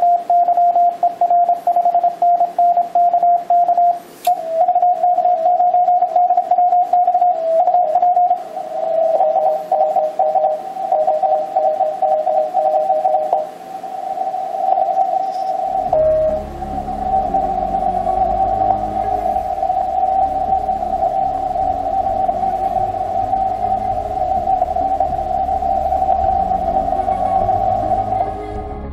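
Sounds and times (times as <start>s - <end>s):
steady morse code tone: 0.0s - 28.7s
overlapping morse signals: 0.0s - 28.9s.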